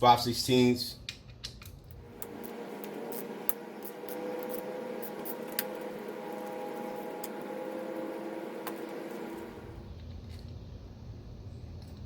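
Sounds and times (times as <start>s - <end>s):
steady low hum: 1.9s - 12.0s.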